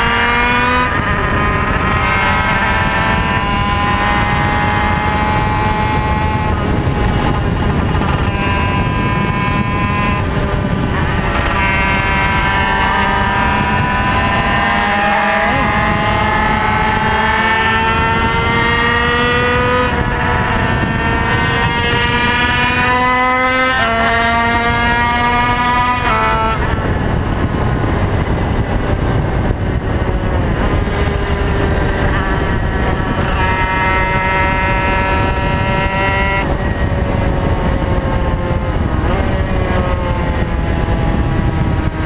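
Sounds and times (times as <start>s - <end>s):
other racing motorcycle engines: 0.0s - 42.0s
racing motorcycle engine at full throttle: 0.0s - 42.0s
wind rush: 0.0s - 42.0s.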